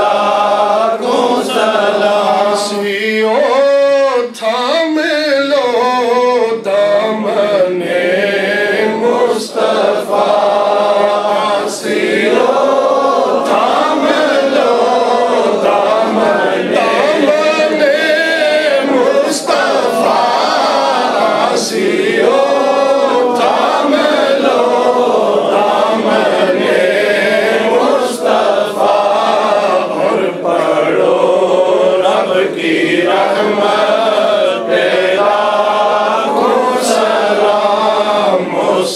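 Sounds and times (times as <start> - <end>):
men chanting together: 0.0 - 38.9.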